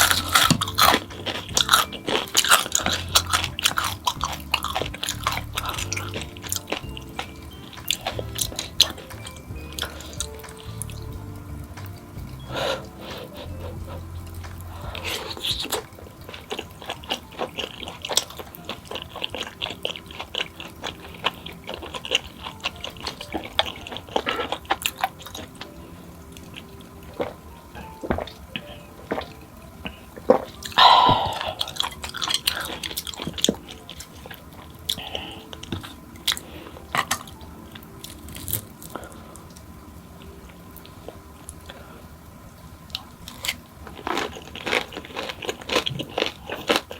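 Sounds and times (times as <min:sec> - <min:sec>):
crunchy chewing and biting: 0:00.0 - 0:39.6, 0:42.9 - 0:46.9.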